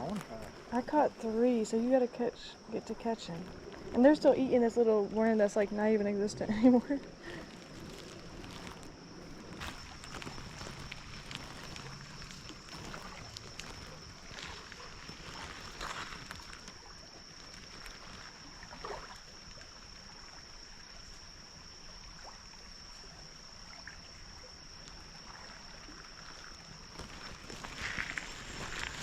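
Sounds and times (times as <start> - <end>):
creek water trickling: 0.0 - 29.0
soft water splashes: 0.0 - 29.0.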